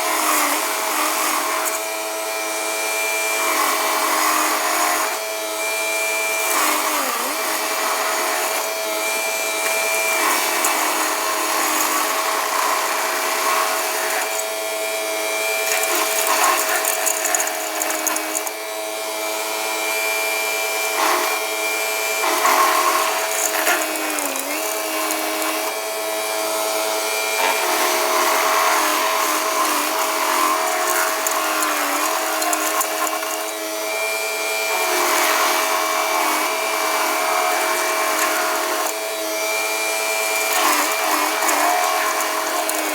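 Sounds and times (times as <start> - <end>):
stump grinder chewing stump: 0.0 - 42.9.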